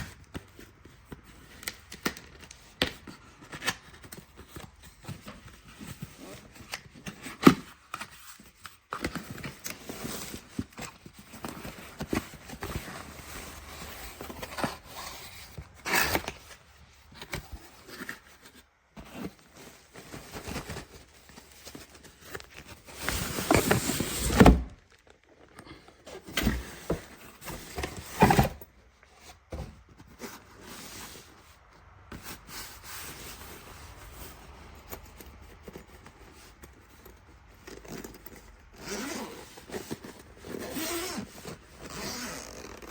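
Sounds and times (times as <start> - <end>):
rustling: 3.4 - 42.9.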